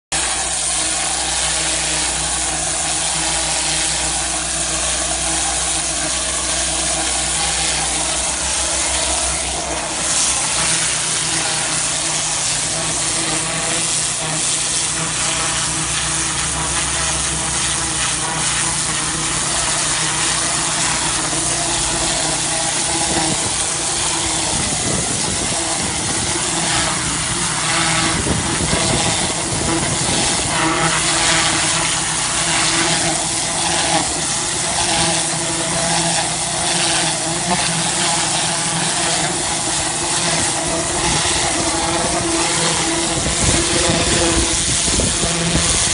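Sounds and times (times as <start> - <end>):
pressure washer motor humming: 0.1 - 45.9
water jet hissing on stone: 0.1 - 45.9.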